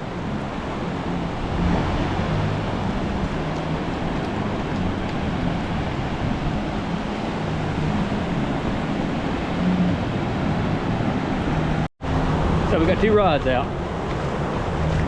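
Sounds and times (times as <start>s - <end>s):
ocean surf: 0.0s - 15.0s
wind rumbling on microphone: 0.0s - 15.0s.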